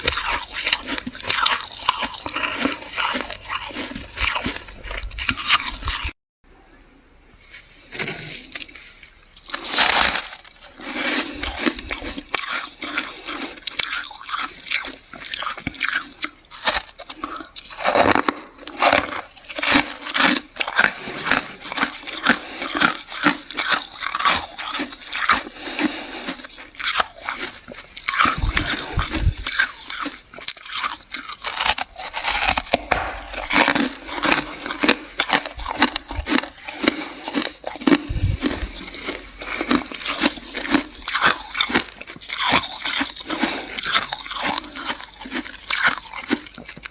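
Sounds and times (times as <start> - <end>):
crunching frost being chewed: 0.0 - 6.2, 7.9 - 46.9.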